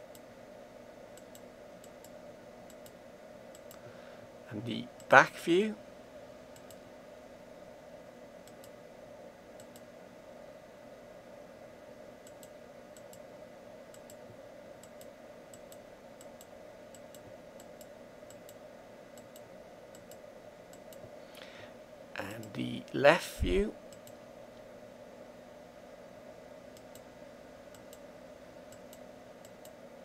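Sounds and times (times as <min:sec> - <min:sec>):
faint room hum: 0:00.0 - 0:30.0.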